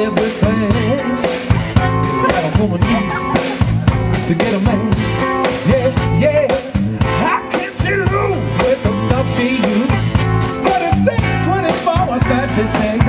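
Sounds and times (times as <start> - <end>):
drum kit beat: 0.0 - 13.0
electric guitar: 0.0 - 13.0
person singing: 0.0 - 13.0.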